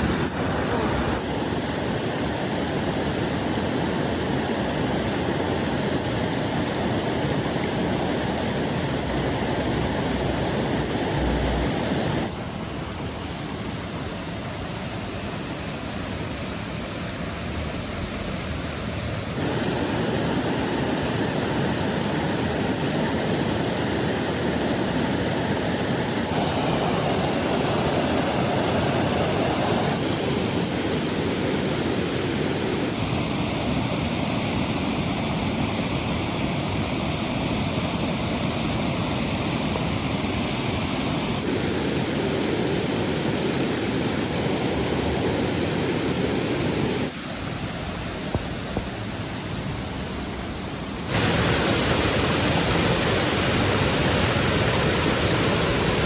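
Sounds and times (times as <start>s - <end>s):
rushing river water: 0.0s - 13.0s, 16.3s - 56.0s
rain: 0.0s - 13.9s, 14.6s - 56.0s.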